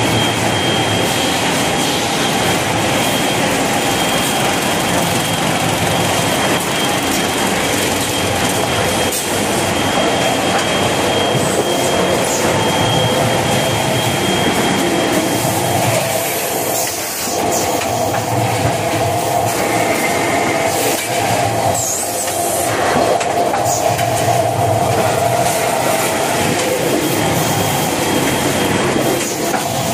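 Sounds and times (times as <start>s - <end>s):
machinery clattering and rattling: 0.0s - 29.9s.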